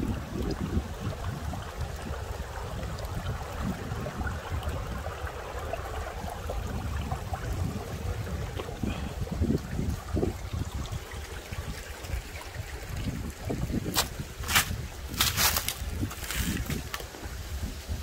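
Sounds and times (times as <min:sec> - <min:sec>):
gusting wind buffeting microphone: 0:00.0 - 0:18.0.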